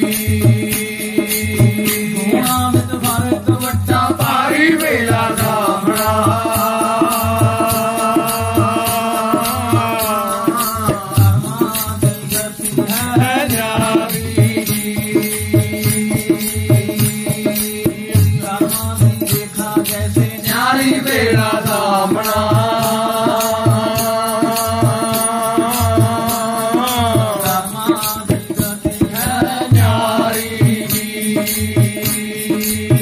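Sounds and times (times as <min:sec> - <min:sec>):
drum beat: 0:00.0 - 0:33.0
man singing: 0:00.0 - 0:33.0.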